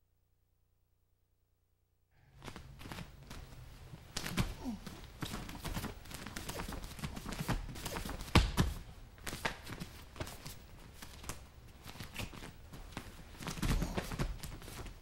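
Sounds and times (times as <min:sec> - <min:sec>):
feet stepping and shuffling on mat: 0:02.4 - 0:15.0.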